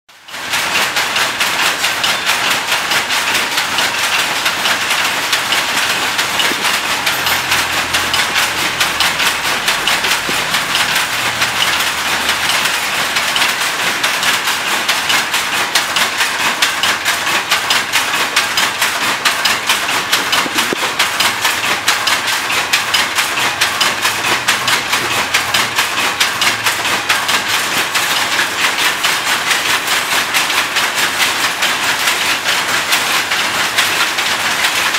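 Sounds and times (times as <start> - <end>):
power looms clattering: 0.2 - 34.9.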